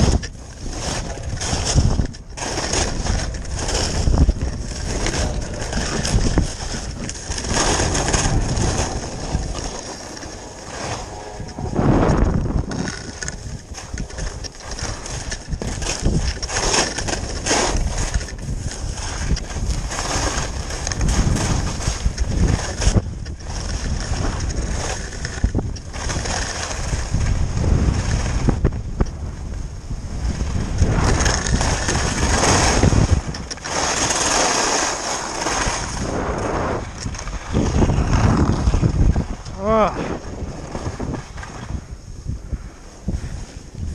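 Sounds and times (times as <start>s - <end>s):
skis scraping over snow: 0.0s - 43.9s
wind buffeting microphone: 0.0s - 43.9s.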